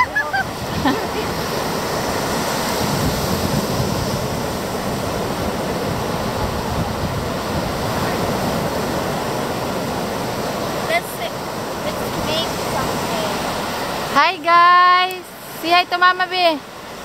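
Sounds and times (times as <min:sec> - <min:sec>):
ocean surf breaking: 0:00.0 - 0:17.0
wind: 0:00.0 - 0:17.0.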